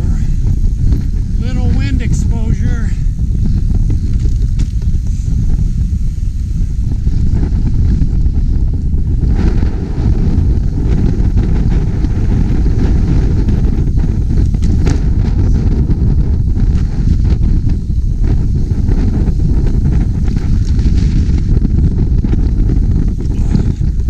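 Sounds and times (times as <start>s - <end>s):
bike rolling on boardwalk: 0.0s - 24.0s
wind buffeting microphone: 0.0s - 24.0s.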